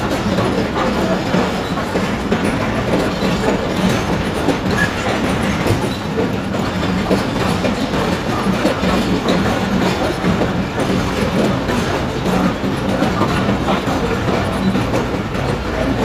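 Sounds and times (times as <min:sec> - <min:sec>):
train coaches rumbling on rails: 0:00.0 - 0:16.0.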